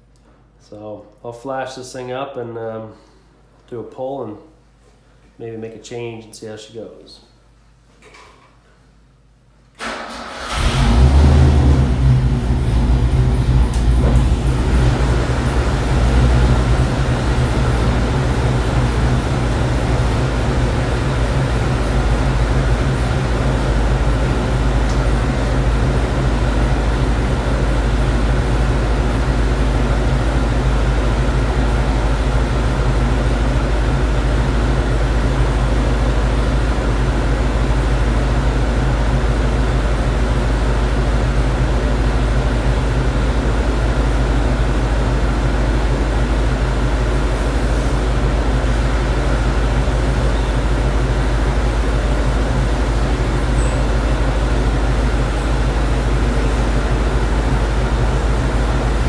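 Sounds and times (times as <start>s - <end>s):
engine running steadily: 9.8s - 59.0s.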